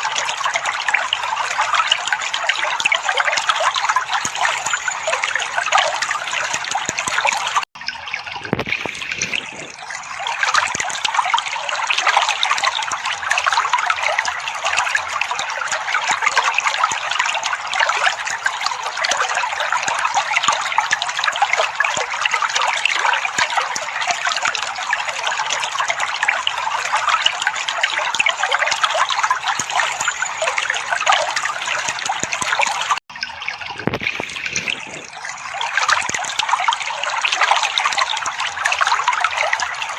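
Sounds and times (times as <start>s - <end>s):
trickling splashing water: 0.0s - 39.9s.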